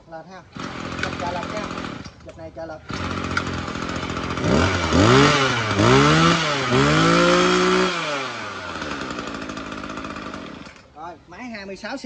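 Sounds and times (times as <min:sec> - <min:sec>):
brush cutter engine revving: 0:00.5 - 0:11.0.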